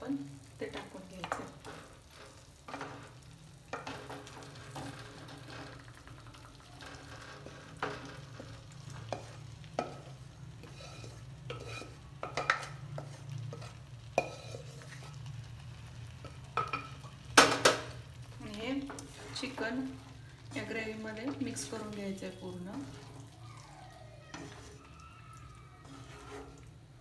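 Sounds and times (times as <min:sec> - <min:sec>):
faint gravy sizzle: 0:00.0 - 0:27.0
wooden spatulas scraping a pan: 0:00.7 - 0:15.3, 0:18.7 - 0:27.0.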